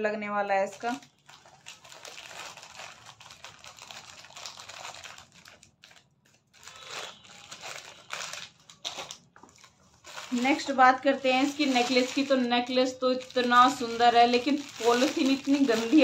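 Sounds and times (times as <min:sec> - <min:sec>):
plastic packaging crinkling: 0:00.4 - 0:16.0.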